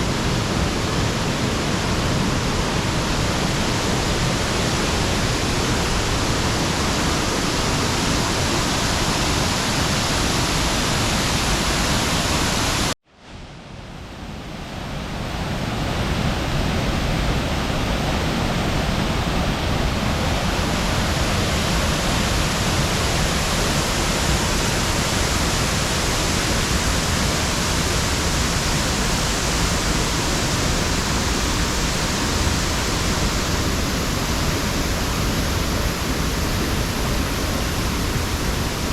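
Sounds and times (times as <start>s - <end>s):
waterfall rushing: 0.0s - 13.0s, 17.2s - 38.9s.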